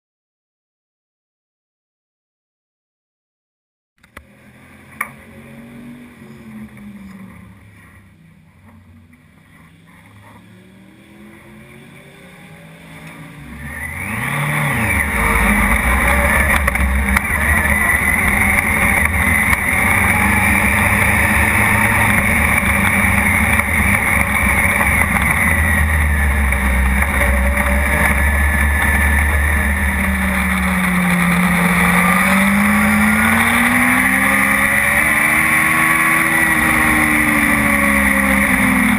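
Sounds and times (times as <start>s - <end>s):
race car engine revving: 4.0s - 38.9s.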